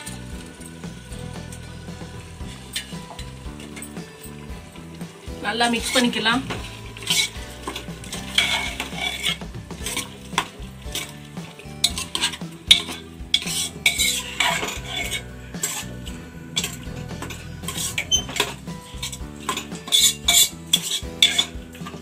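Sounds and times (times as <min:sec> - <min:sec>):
metal spoon scraping a pot: 0:00.0 - 0:22.0.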